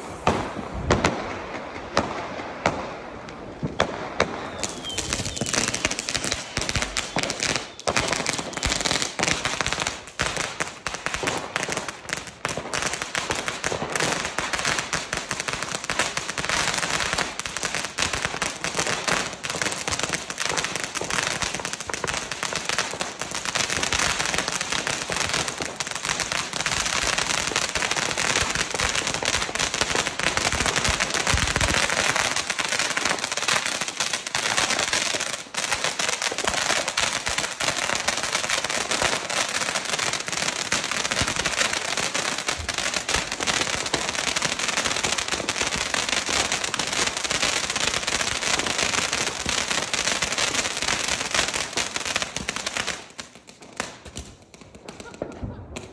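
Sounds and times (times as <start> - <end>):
crackling firework fountain: 0.0 - 55.9.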